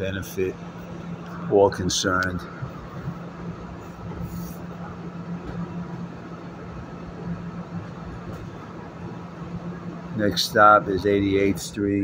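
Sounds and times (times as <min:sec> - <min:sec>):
constant low hum: 0:00.0 - 0:12.0.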